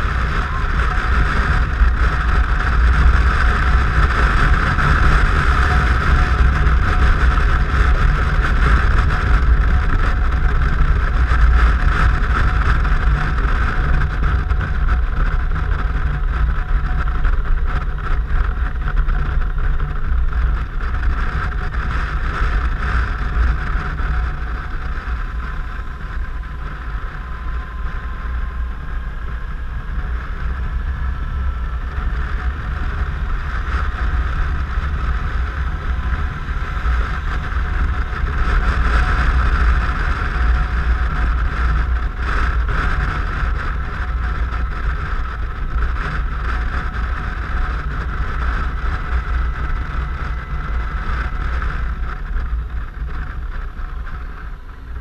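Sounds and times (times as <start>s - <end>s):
scooter engine drone: 0.0s - 55.0s
wind rush on microphone: 0.0s - 55.0s.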